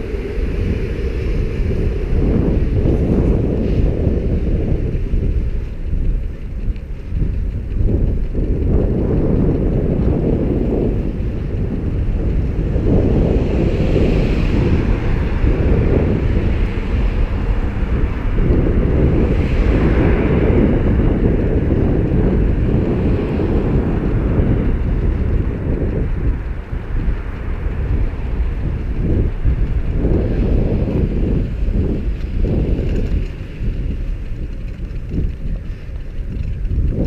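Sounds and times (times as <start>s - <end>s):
road traffic: 0.0s - 37.0s
wind buffeting microphone: 0.0s - 37.0s.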